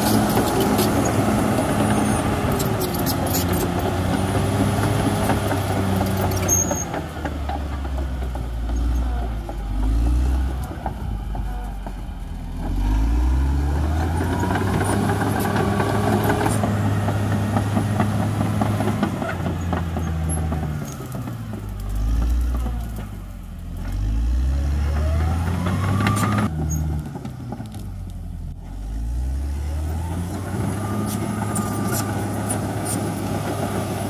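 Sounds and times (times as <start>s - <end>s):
bulldozer diesel engine revving: 0.0s - 34.0s.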